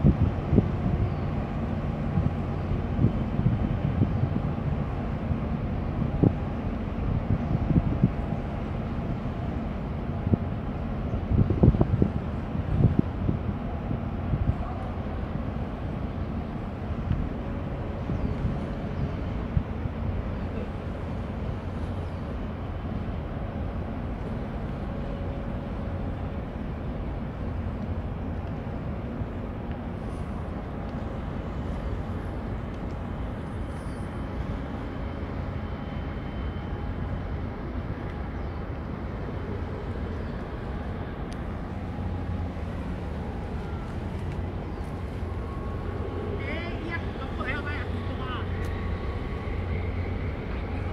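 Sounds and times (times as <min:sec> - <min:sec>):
ship engines low rumble: 0:00.0 - 0:50.9.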